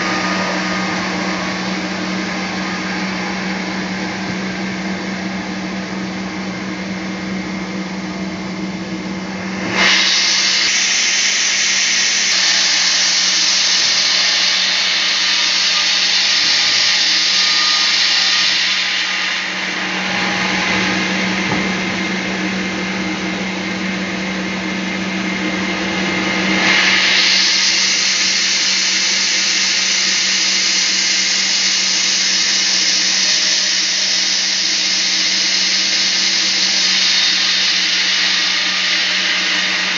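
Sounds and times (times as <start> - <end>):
sawmill motor hum: 0.0 - 39.9.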